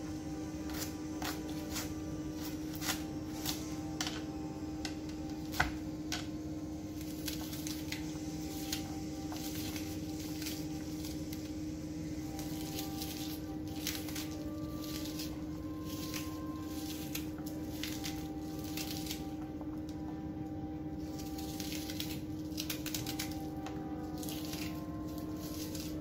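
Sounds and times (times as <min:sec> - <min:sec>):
low hum: 0:00.0 - 0:26.0
knife cutting onion: 0:00.3 - 0:06.3, 0:07.0 - 0:19.4, 0:21.1 - 0:26.0.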